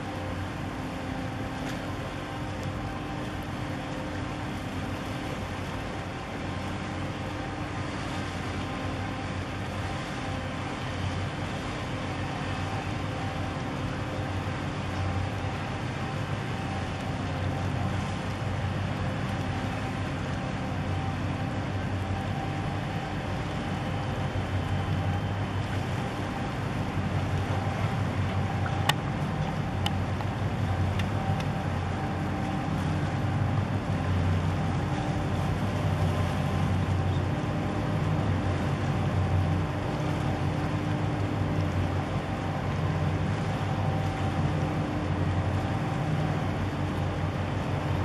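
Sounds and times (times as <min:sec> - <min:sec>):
boat engine drone: 0:00.0 - 0:48.0.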